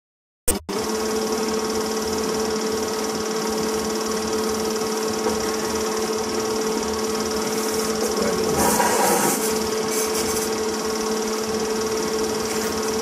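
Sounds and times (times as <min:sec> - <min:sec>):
film projector whirring: 0:00.5 - 0:13.0
steady hum: 0:00.8 - 0:13.0.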